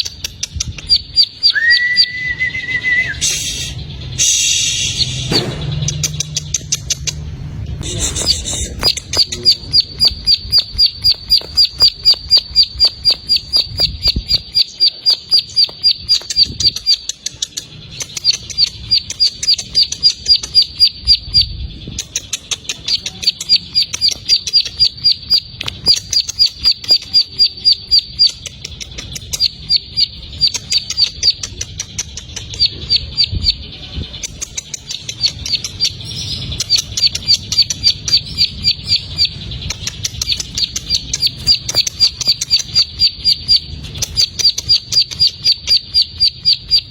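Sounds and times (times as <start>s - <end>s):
bird singing high chip notes: 0.0s - 46.9s.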